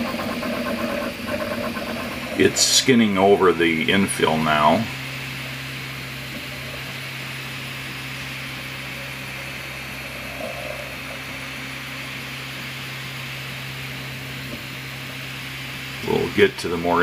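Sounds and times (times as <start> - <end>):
low even hum: 0.0 - 17.0
printer fans whirring: 0.0 - 17.0.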